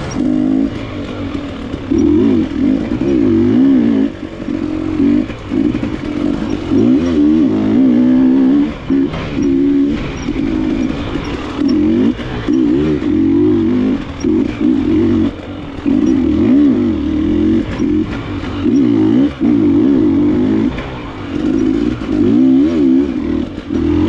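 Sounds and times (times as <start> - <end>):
motorcycle engine revving: 0.0 - 24.0
motorcycle knocking over rough trail: 0.0 - 24.0.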